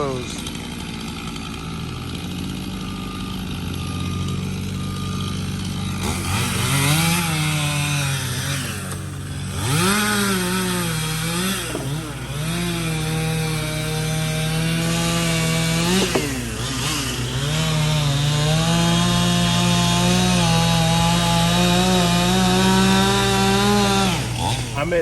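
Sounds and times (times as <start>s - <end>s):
cutting wheel grinding: 0.0s - 25.0s
stump grinder engine revving: 0.0s - 25.0s.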